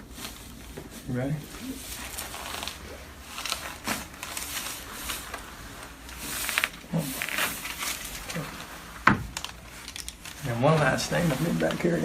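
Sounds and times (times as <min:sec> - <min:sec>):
rustling on a table: 0:00.2 - 0:12.0.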